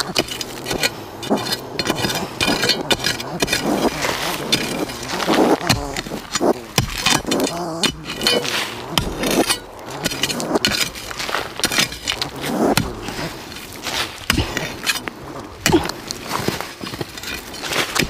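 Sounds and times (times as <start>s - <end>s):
knife scraping dry soil: 0.0s - 18.0s.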